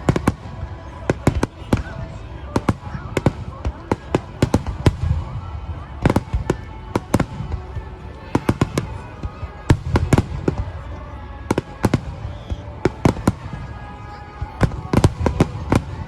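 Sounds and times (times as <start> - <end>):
faint background music: 0.0 - 16.0
fireworks bangs and crackles: 0.0 - 16.0.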